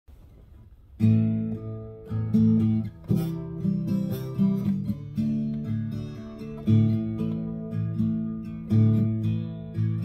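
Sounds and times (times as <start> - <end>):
acoustic guitar strumming: 0.2 - 10.0.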